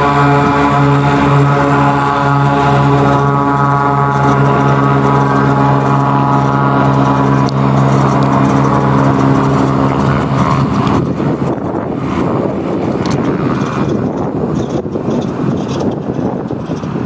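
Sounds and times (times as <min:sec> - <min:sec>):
floatplane engine and propeller droning: 0:00.0 - 0:17.0.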